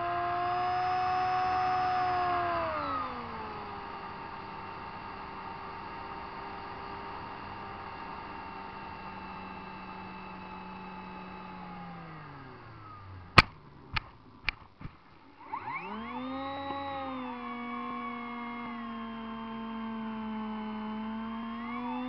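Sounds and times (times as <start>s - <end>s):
model plane motor and propeller: 0.0s - 22.0s.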